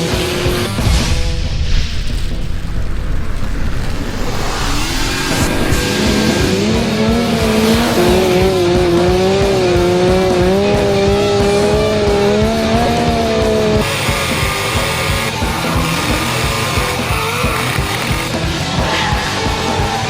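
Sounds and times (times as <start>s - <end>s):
background music: 0.0s - 20.0s
car engine running hard: 0.0s - 20.0s
tyres squealing: 3.5s - 20.0s.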